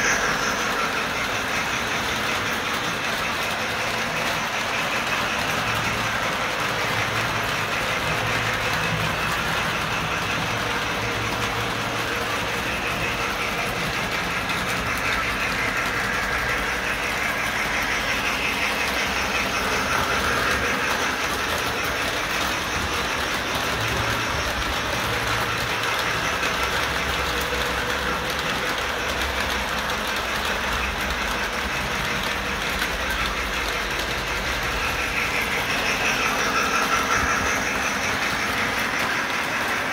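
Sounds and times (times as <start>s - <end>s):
model train motor whirring: 0.0s - 39.9s
wheels rattling over rails: 0.0s - 39.9s.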